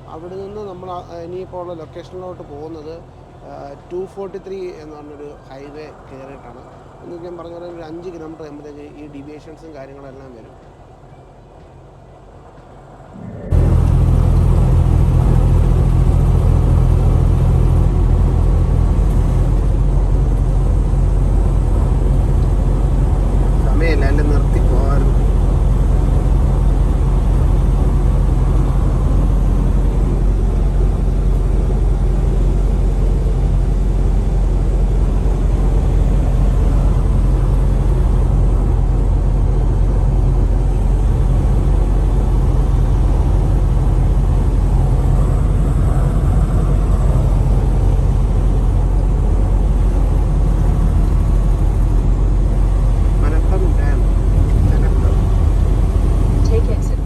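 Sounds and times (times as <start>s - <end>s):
truck diesel engine drone: 0.0s - 11.0s, 11.8s - 57.0s.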